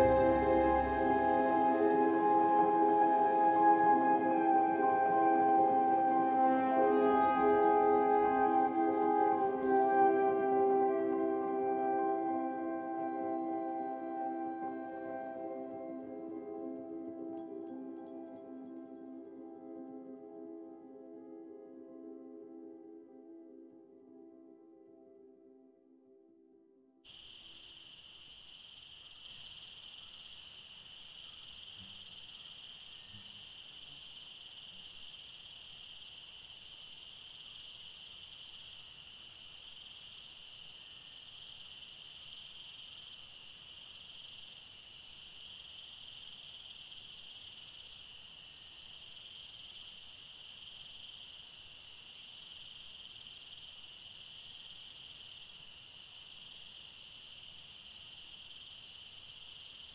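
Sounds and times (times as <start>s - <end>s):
crickets chirping: 0.0s - 25.8s, 27.0s - 59.9s.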